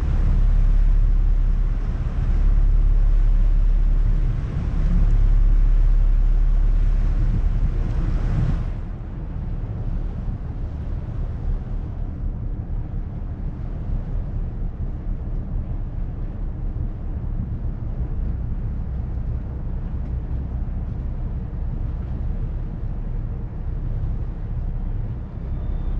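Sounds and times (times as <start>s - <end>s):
boat engine rumbling: 0.0s - 25.9s
wind on microphone: 0.0s - 25.9s.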